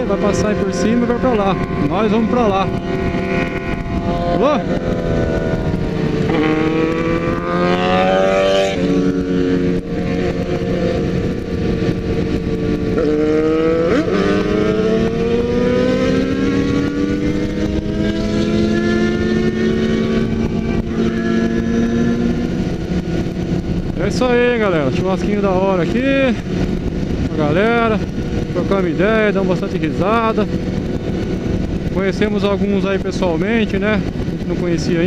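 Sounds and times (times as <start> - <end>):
motorcycle engine revving: 0.0 - 35.0
other motorcycle engines: 0.0 - 35.0
wind rush: 0.0 - 35.0.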